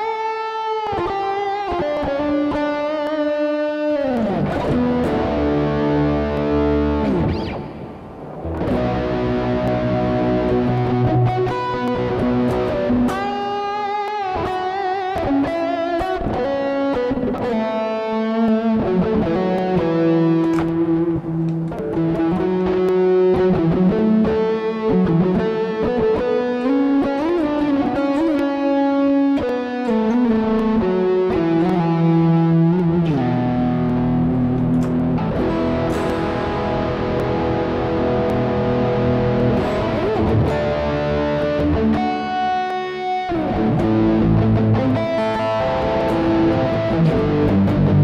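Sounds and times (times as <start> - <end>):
overdriven electric guitar melody: 0.0 - 48.0.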